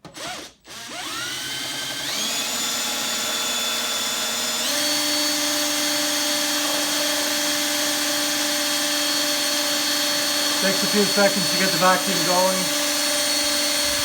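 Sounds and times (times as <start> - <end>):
electric drill whining: 0.0 - 14.0.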